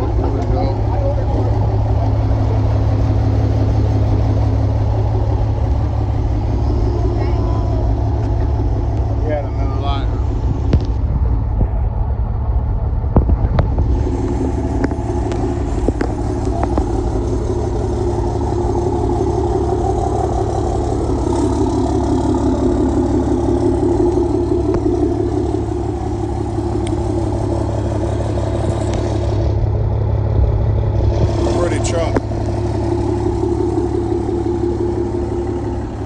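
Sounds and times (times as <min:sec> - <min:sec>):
truck engines running: 0:00.0 - 0:36.0.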